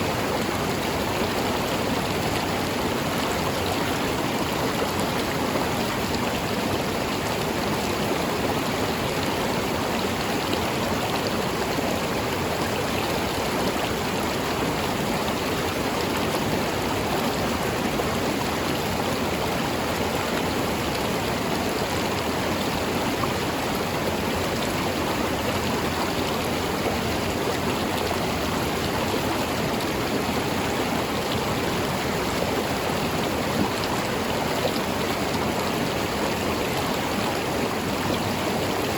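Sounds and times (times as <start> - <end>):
water flowing over rocks: 0.0 - 38.9.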